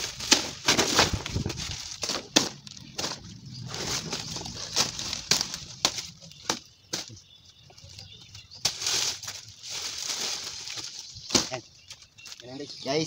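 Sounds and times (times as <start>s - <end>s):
banana leaves rustling and crackling: 0.0s - 13.0s.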